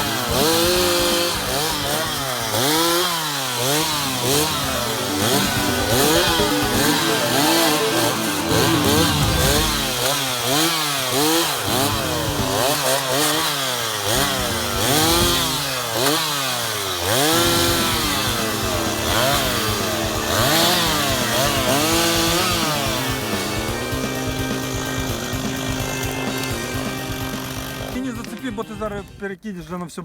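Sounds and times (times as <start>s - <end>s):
chainsaw revving: 0.0s - 29.2s.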